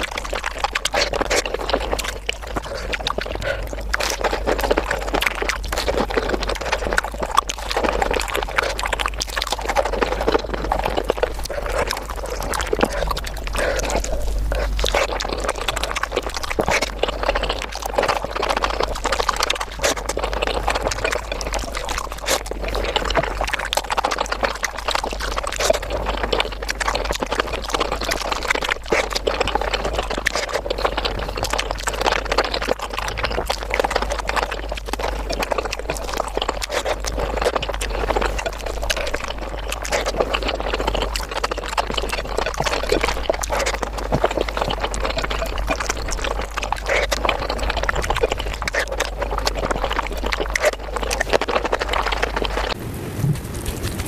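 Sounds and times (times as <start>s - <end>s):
fingers squishing saucy rice: 0.0s - 52.8s
wet chewing and lip smacks: 0.0s - 52.8s.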